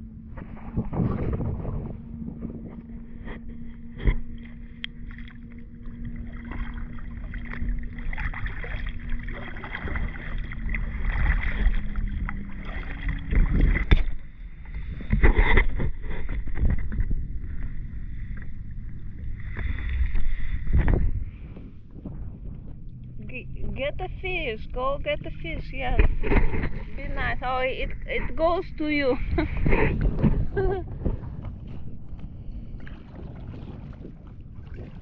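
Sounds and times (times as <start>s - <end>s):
faint steady hum: 0.0s - 35.0s
paddles splashing in water: 0.3s - 22.8s, 23.7s - 35.0s.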